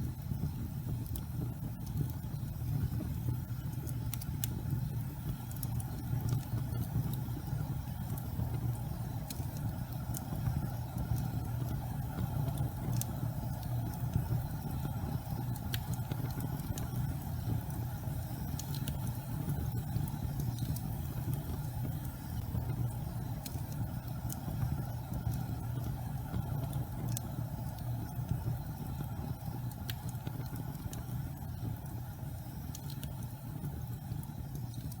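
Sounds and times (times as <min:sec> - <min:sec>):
faint crackles and ticks: 0:00.0 - 0:35.0
gas fire flames roaring: 0:00.0 - 0:35.0.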